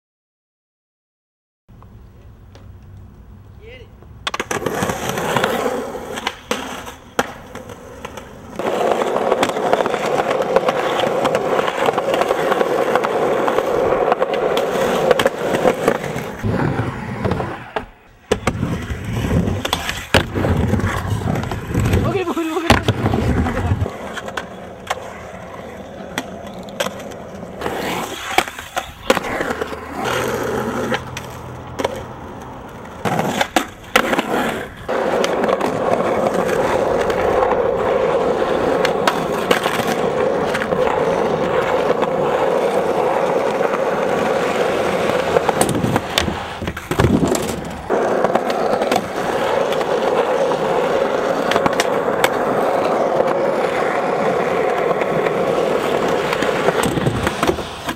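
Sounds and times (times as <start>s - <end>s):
skateboard wheels rolling on concrete: 1.7s - 57.9s
skateboard clacking: 4.0s - 57.9s.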